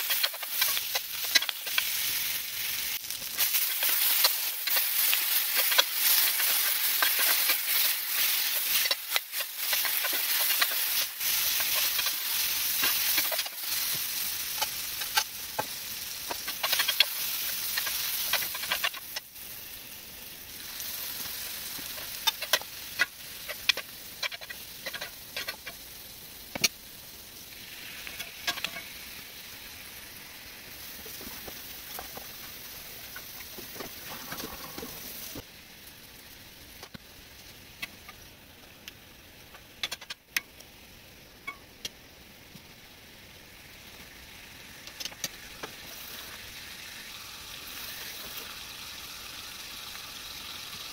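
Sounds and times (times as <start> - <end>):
vegetables sizzling in a skillet: 0.0 - 50.9.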